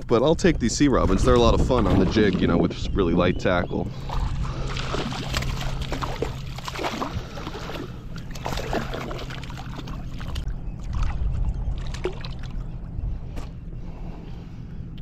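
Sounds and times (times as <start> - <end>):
shallow water splashing: 0.8 - 2.8, 3.6 - 13.6.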